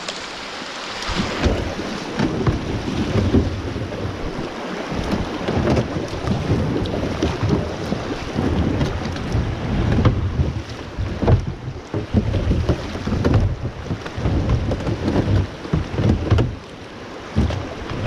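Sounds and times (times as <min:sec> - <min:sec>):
water sloshing around kayak: 0:00.0 - 0:18.0
wind buffeting microphone: 0:01.0 - 0:18.0.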